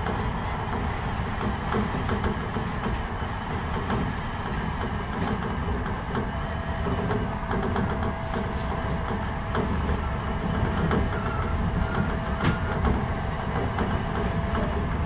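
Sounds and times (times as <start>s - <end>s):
train rumble: 0.0s - 15.0s
wheels clicking on rails: 0.0s - 15.0s.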